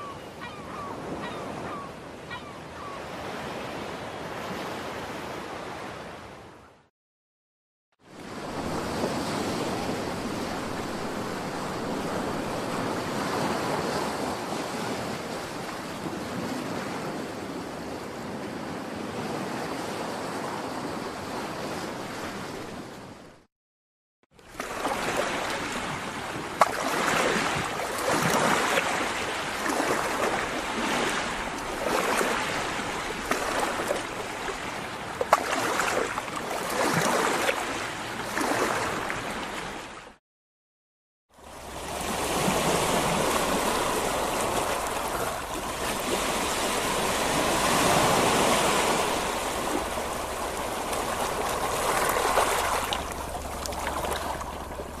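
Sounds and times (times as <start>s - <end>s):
ocean waves breaking: 8.0s - 23.4s, 24.4s - 40.2s, 41.3s - 55.0s.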